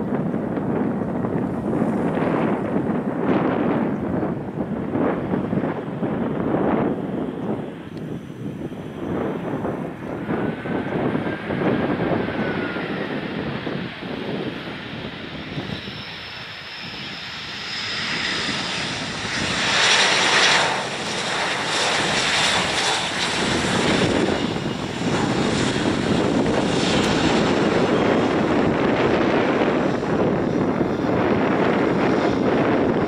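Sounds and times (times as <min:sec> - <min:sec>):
jet airliner passing: 0:00.0 - 0:33.0.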